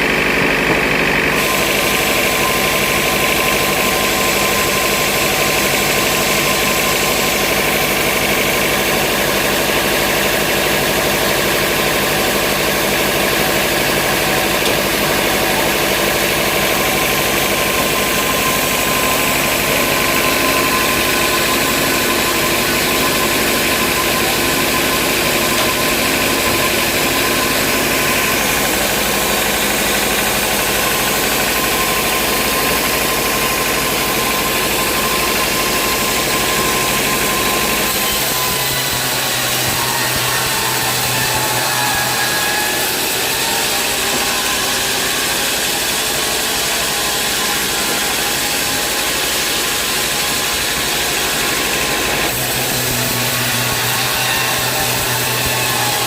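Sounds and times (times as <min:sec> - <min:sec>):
band saw running with whine: 0:00.0 - 0:56.0.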